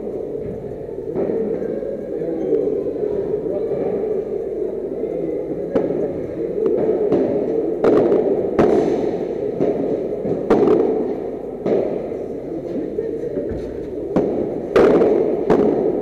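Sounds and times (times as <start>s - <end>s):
echoing indoor hall hum: 0.0s - 16.0s.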